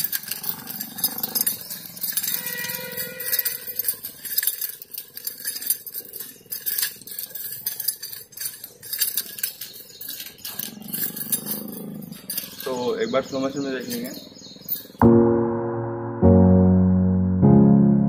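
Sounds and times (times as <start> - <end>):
nunchaku chain rattling: 0.0 - 15.0.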